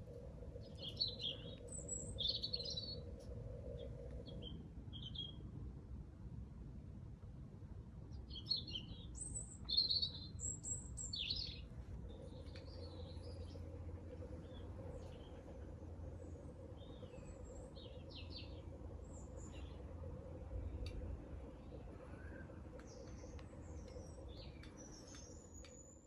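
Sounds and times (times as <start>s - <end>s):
small birds chirping: 0.0s - 5.4s, 8.1s - 26.0s
faint low hum: 0.0s - 26.0s.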